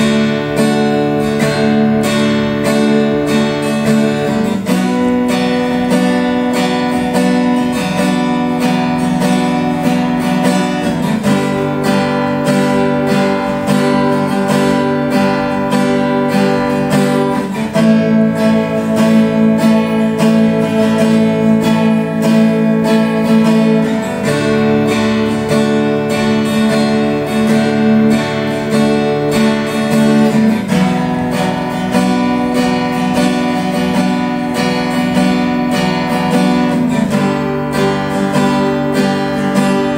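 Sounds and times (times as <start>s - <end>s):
acoustic guitar playing chords: 0.0s - 39.9s.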